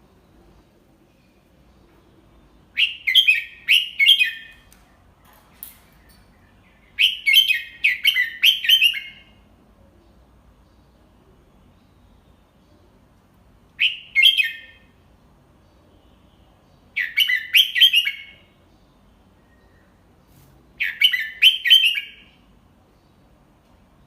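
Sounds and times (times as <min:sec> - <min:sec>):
bird singing warbled phrases: 0:00.1 - 0:24.0.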